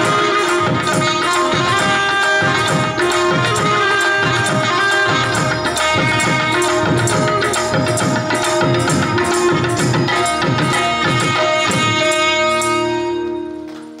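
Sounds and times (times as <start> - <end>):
percussion beat: 0.0 - 14.0
saxophones playing a melody: 0.0 - 14.0.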